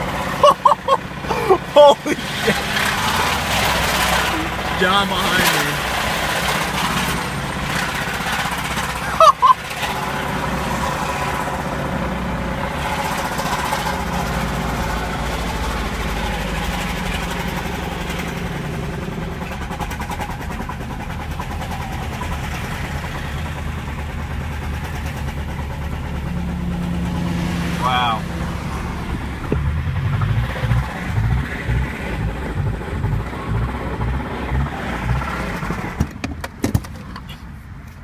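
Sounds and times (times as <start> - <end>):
rapid engine knocking: 0.0 - 36.6
car engine running: 0.0 - 37.3.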